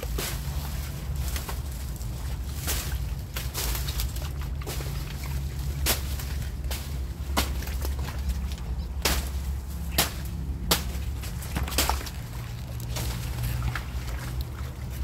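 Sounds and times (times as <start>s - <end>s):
dry leaves crackling and snapping: 0.0s - 15.0s
steady low rumble: 0.0s - 15.0s.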